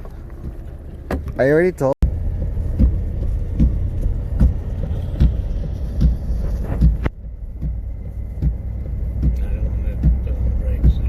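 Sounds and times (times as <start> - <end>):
soft engine knock: 0.0 - 1.4, 2.0 - 11.0
pickup truck engine rumbling: 0.0 - 11.0.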